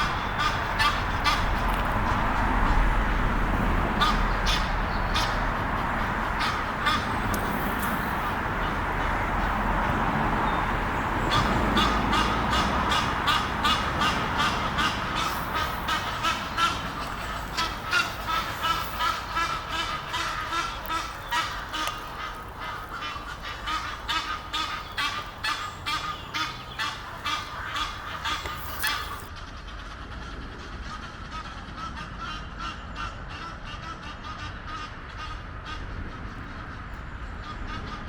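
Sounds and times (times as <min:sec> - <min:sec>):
geese honking: 0:00.0 - 0:38.0.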